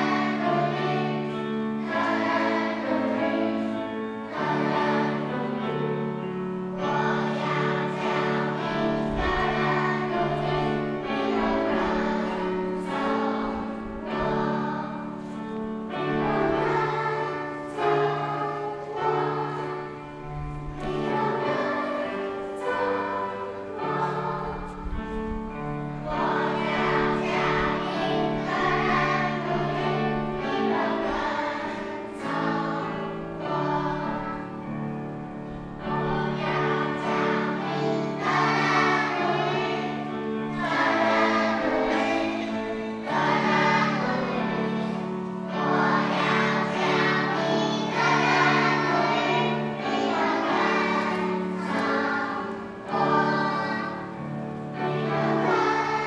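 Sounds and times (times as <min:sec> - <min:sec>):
children's choir singing a hymn: 0:00.0 - 0:56.0
grand piano: 0:00.0 - 0:56.0.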